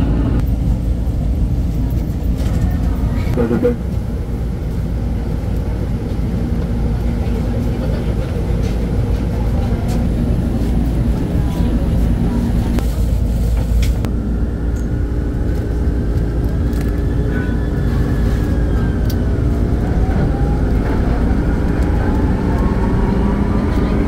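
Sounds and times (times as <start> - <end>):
train running low rumble: 0.0 - 24.0.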